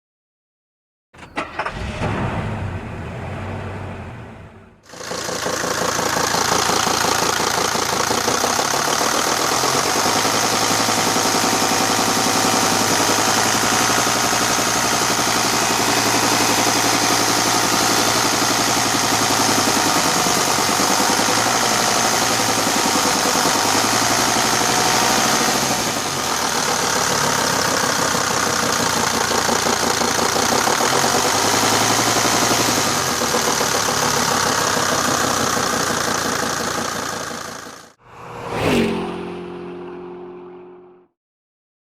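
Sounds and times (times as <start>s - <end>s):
diesel engine idling: 1.2s - 37.9s.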